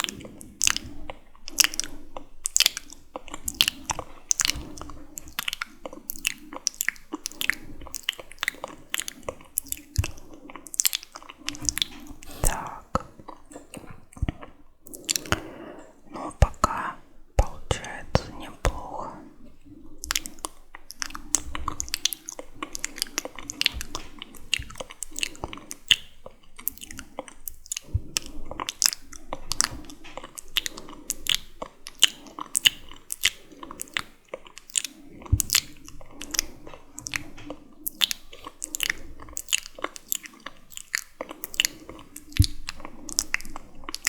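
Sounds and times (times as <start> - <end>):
wet mouth clicks and smacks: 0.0 - 44.0.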